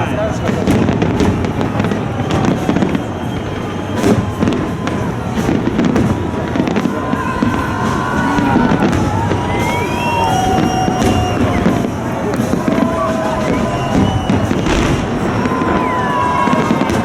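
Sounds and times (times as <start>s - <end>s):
fireworks bangs: 0.0s - 17.0s
fireworks crackling: 0.0s - 17.0s
fireworks whistling: 0.0s - 17.0s.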